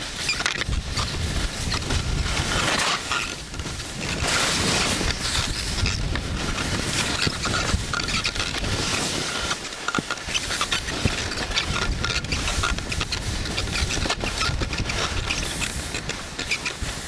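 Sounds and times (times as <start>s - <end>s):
wind buffeting microphone: 0.0s - 9.6s, 10.4s - 17.0s
skis scraping over snow: 0.0s - 17.0s.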